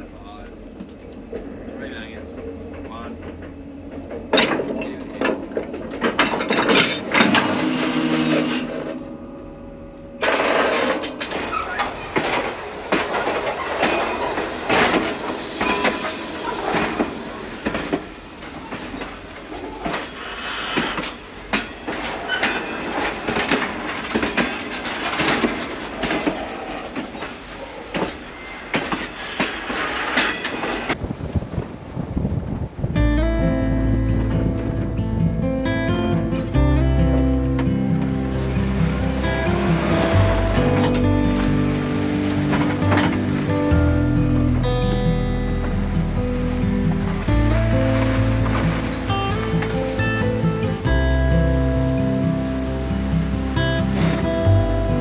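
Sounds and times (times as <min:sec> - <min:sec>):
freight train wagons clanking: 0:00.0 - 0:32.2, 0:32.8 - 0:55.0.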